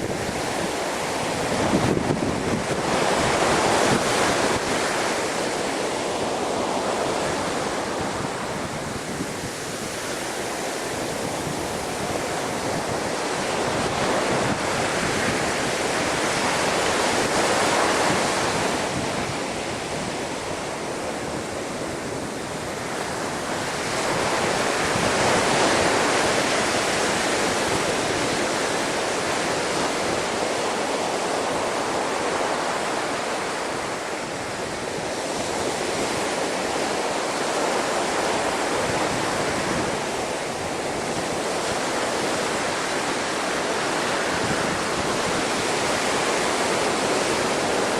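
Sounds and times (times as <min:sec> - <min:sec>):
storm waves breaking: 0:00.0 - 0:47.9
wind: 0:00.0 - 0:47.9.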